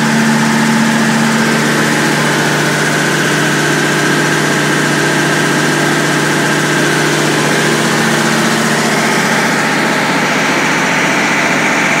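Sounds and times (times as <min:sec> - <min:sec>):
generator and compressor drone: 0:00.0 - 0:12.0.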